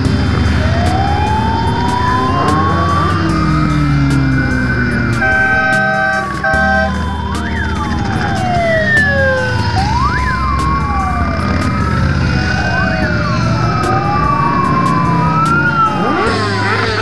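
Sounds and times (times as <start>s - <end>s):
motorcycles riding past: 0.0s - 17.0s
siren wailing: 0.0s - 17.0s.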